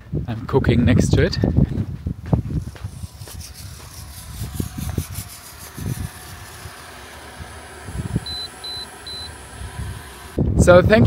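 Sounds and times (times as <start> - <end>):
wind buffeting microphone: 0.0 - 8.4, 9.4 - 11.0.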